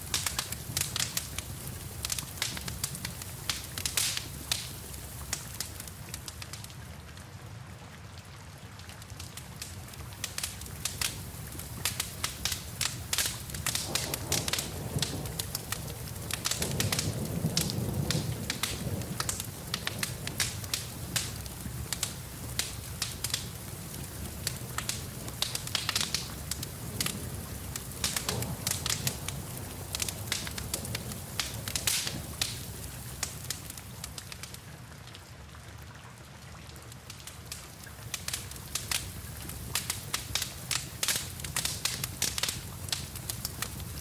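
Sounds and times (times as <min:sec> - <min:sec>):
rain hissing: 0:00.0 - 0:06.7, 0:09.6 - 0:34.8, 0:37.2 - 0:44.0
wood fire crackling: 0:00.0 - 0:07.3, 0:08.2 - 0:35.6, 0:36.6 - 0:44.0.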